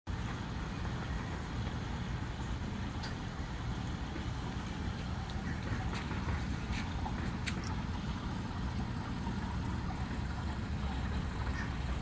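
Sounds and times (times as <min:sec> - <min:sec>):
water fountain motor humming: 0:00.1 - 0:12.0.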